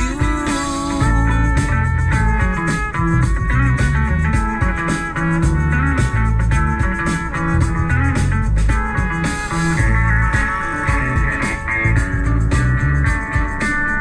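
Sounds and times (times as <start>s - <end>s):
instrumental rock music: 0.0s - 14.0s.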